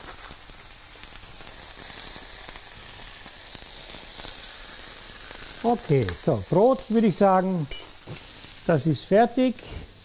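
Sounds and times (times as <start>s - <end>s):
steaks sizzling in frying pan: 0.0s - 10.0s.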